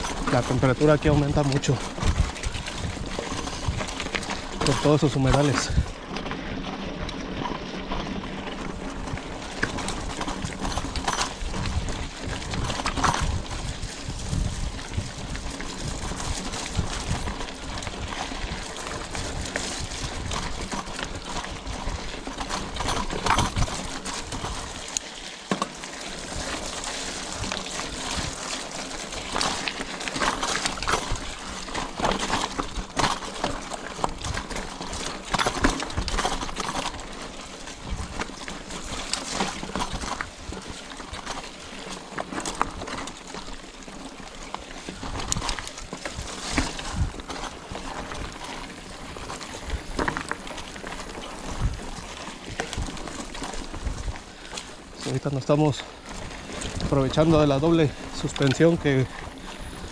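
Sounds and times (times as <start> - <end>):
bike knocking on rocks: 0.0 - 59.9
tyres crunching over stones: 0.0 - 59.9.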